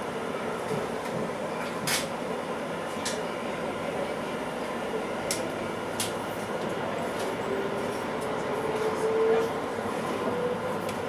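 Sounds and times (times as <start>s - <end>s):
train rumble and hiss: 0.0s - 11.0s.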